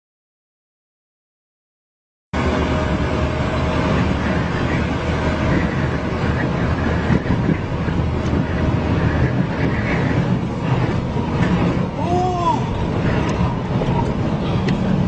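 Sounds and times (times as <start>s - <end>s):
vehicle engine hum: 2.4s - 15.0s
wind and road noise: 2.4s - 15.0s.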